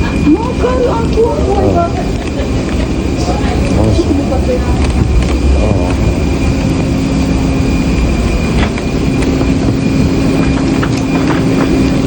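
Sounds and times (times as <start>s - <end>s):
airliner rumble and hum: 0.0s - 12.0s.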